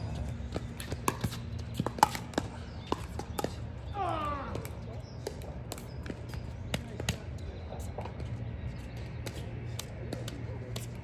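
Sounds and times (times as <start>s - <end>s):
balls bouncing on hard court: 0.0s - 11.0s.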